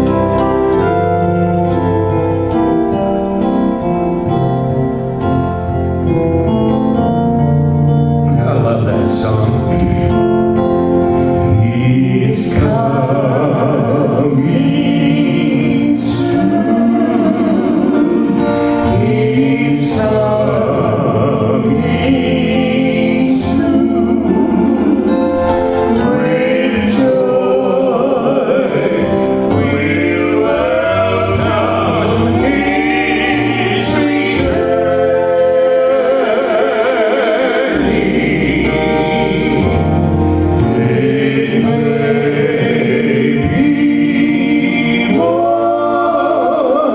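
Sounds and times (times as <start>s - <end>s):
instrumental accompaniment: 0.0s - 46.9s
group singing gospel song: 8.3s - 46.9s.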